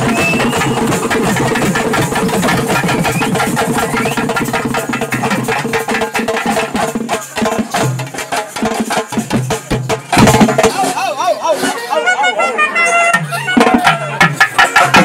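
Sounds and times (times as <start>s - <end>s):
fast folk drumming: 0.0s - 12.1s, 13.1s - 15.0s.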